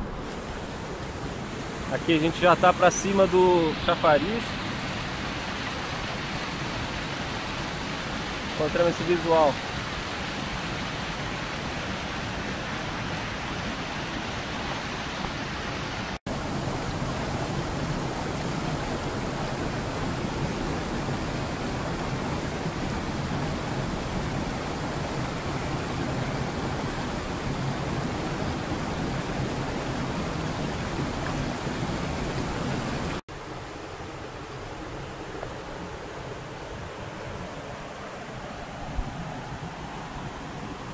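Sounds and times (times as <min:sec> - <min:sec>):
river rushing over boulders: 0:00.0 - 0:40.9.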